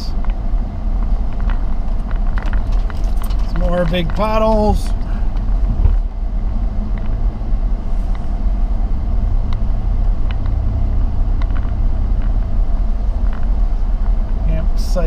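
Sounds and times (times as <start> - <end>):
car rumbling over rough road: 0.0 - 15.0.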